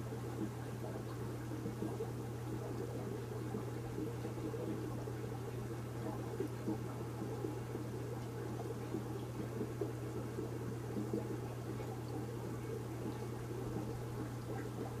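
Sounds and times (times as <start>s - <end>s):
aquarium filter hum: 0.0s - 15.0s
water trickling and bubbling: 0.0s - 15.0s.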